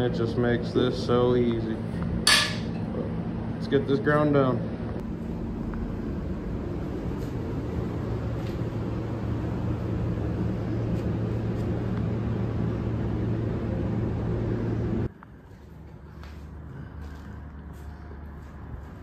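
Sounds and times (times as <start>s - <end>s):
shop machinery humming: 0.0s - 19.0s.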